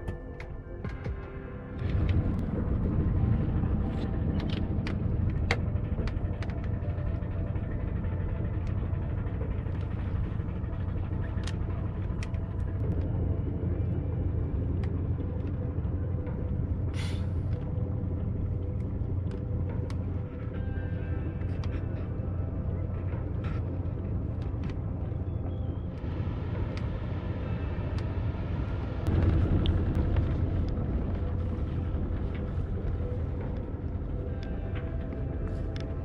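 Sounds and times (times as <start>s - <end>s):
ship engine rumbling: 1.8s - 36.0s.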